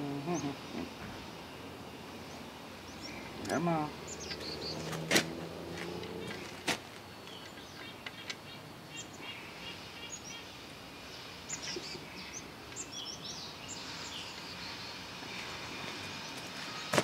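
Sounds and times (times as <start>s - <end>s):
outdoor background noise: 0.0s - 17.0s
small birds chirping: 0.0s - 17.0s.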